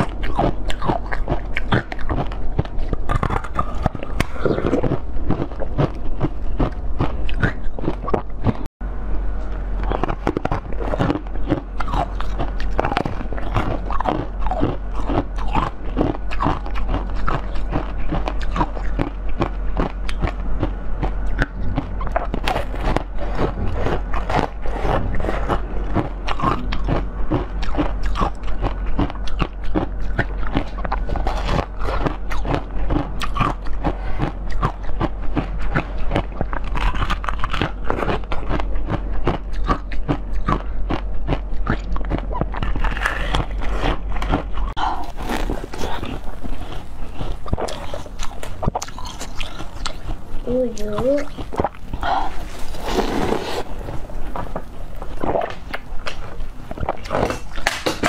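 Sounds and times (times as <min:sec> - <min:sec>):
chewing jelly sweet crunches: 0:00.0 - 0:08.7, 0:09.5 - 0:58.0
low hum: 0:00.0 - 0:58.0.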